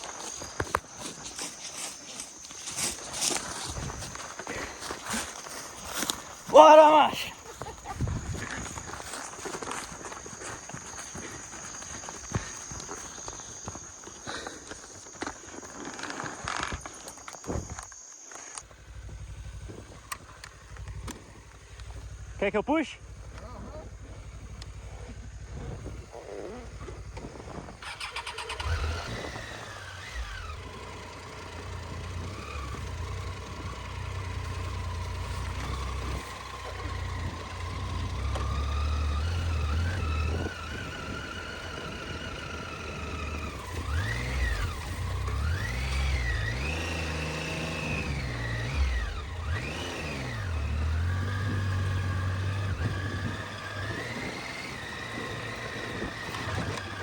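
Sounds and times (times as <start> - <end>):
motorcycle engine revving: 0.0 - 17.8, 18.6 - 57.0.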